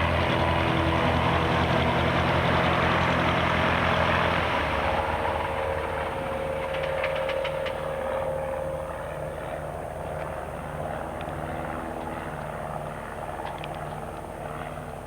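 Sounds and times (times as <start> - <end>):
light aircraft engine drone: 0.0 - 15.0.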